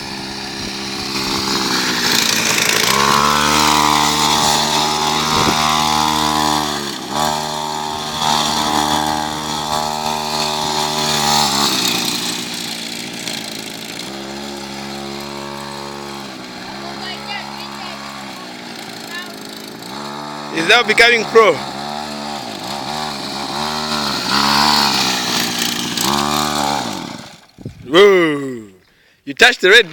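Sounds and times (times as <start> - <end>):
quad bike engine revving: 0.0 - 28.7.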